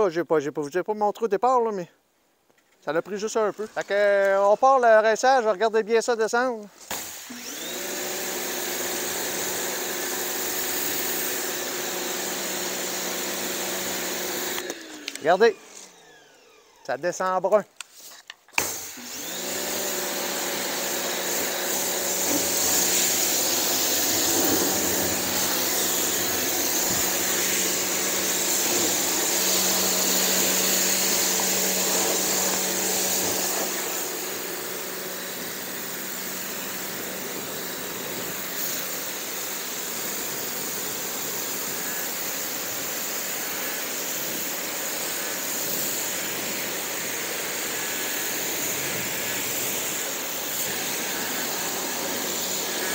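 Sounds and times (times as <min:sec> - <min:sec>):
pressure washer spray hissing: 0:06.9 - 0:14.7, 0:17.9 - 0:52.9.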